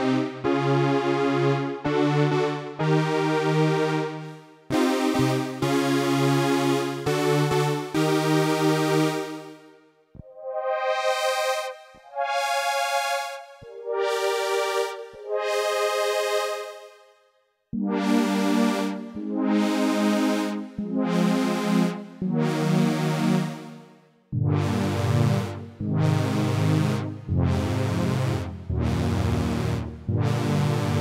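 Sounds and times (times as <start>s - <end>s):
synthesizer chords: 0.0s - 31.0s.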